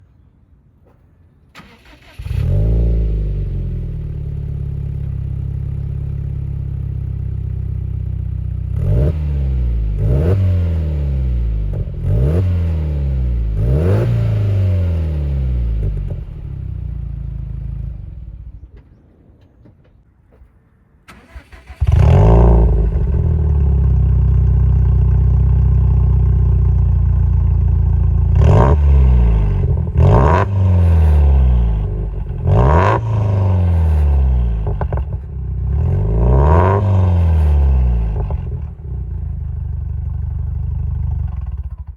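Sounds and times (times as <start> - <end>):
car engine idling and revving: 1.8 - 18.7, 21.2 - 41.9.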